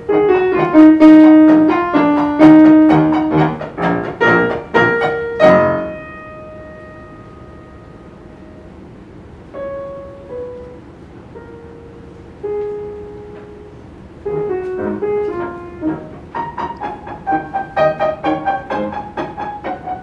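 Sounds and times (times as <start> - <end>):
two pianos playing classical music: 0.0 - 20.0.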